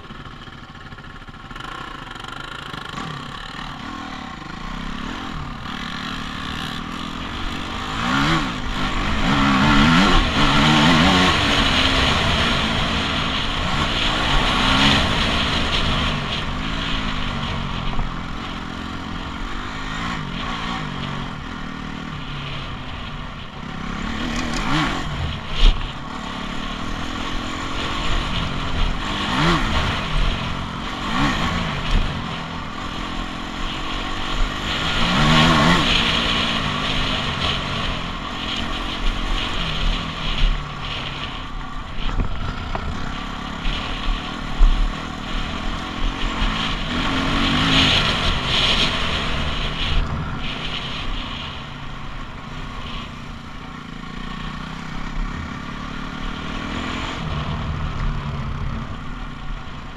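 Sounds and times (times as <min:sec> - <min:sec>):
constant rushing noise: 0:00.0 - 0:59.9
dirt bike engine revving: 0:00.0 - 0:59.9.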